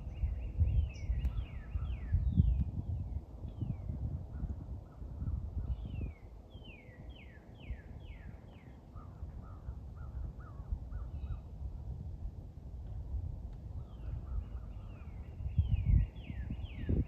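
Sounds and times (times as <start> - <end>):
low wind rumble: 0.0 - 17.0.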